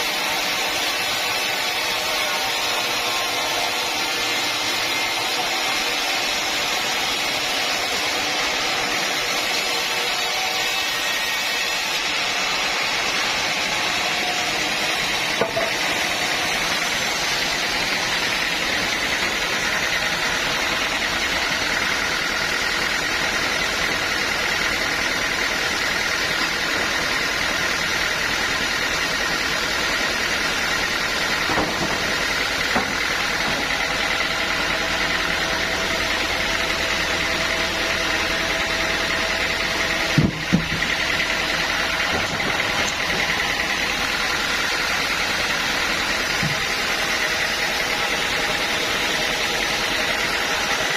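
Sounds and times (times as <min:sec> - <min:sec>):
sawmill machinery humming: 0:00.0 - 0:50.9.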